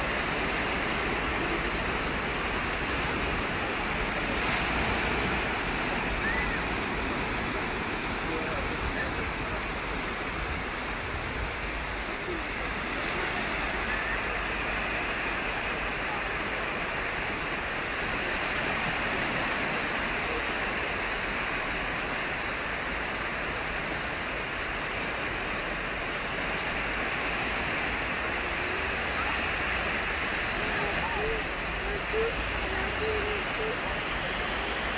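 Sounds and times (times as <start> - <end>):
small waves washing on sand: 0.0 - 34.9.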